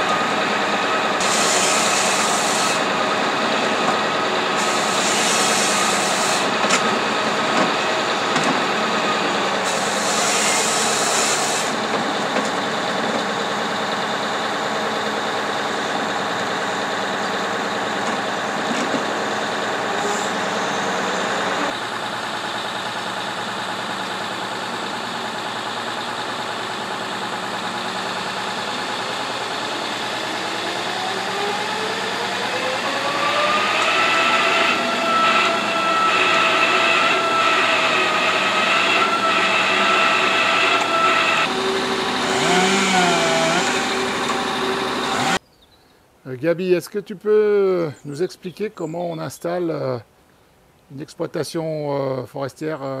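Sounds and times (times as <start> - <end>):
diesel machinery running: 0.0 - 45.4.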